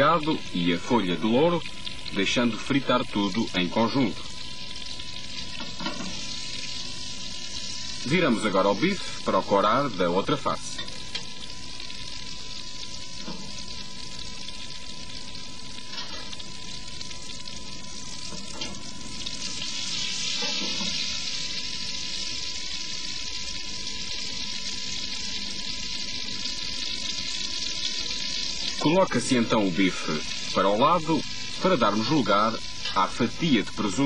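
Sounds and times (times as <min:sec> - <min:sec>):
steak sizzling in a frying pan: 0:00.0 - 0:34.0.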